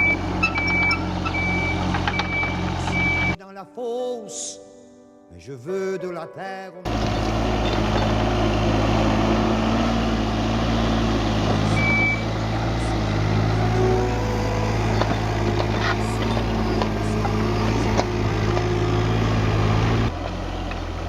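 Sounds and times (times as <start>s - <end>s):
engine droning: 0.0s - 3.4s, 6.9s - 21.0s.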